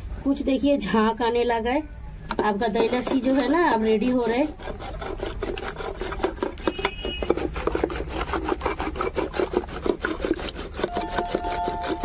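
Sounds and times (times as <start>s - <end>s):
churning stick whisking curd: 2.3s - 12.0s.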